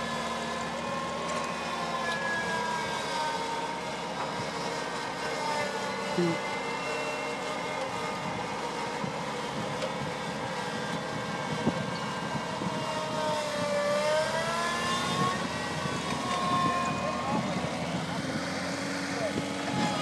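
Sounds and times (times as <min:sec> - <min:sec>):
crawler tractor engine running: 0:00.0 - 0:20.0.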